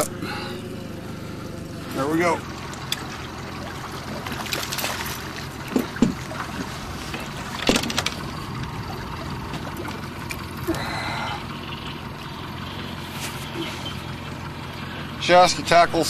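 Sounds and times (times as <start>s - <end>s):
boat motor running: 0.0s - 16.0s
water around a hull: 0.0s - 16.0s.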